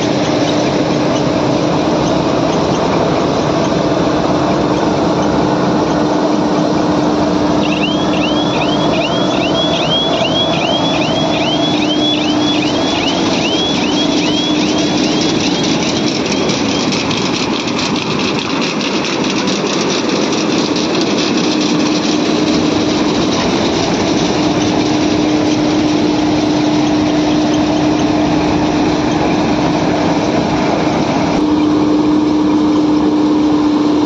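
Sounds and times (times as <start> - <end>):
combine harvester engine humming: 0.0 - 34.0.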